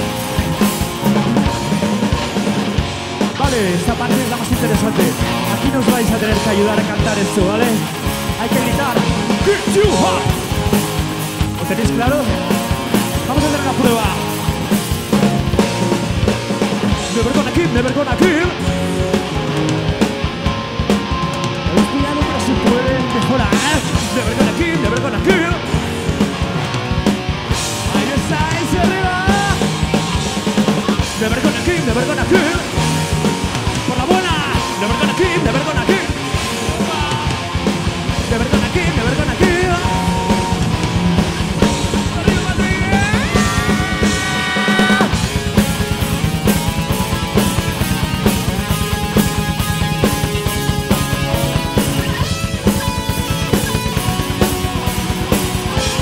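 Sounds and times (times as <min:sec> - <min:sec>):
fast dense drumming: 0:00.0 - 0:56.0
lead guitar melody bending: 0:00.0 - 0:56.0
metal band playing live: 0:00.0 - 0:56.0.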